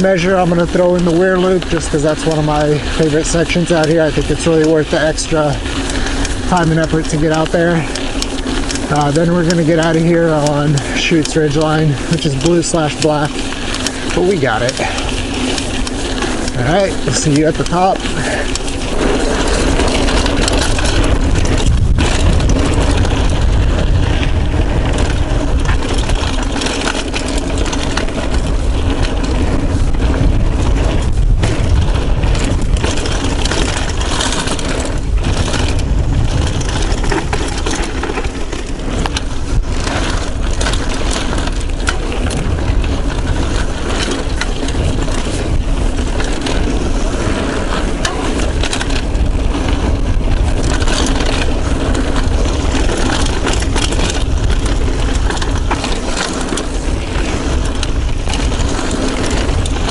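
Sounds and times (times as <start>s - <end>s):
bike rattles and knocks: 0.0s - 59.9s
bike tyres rolling on dirt: 0.0s - 59.9s
wind on microphone: 0.0s - 59.9s.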